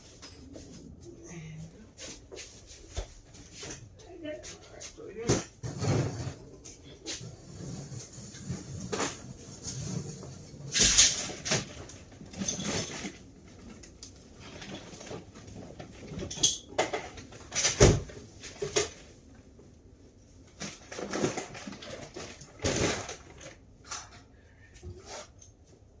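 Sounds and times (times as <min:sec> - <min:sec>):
knocks scrapes and clatter: 0:02.0 - 0:19.1, 0:20.5 - 0:24.2.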